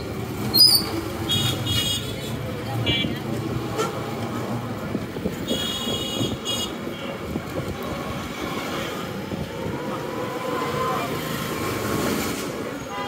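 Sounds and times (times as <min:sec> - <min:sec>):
dense traffic rumble: 0:00.0 - 0:13.0.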